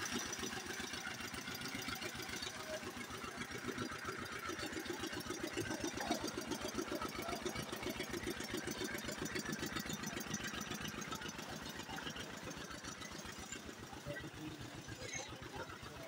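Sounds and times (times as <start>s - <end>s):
engine chugging: 0.0s - 16.0s.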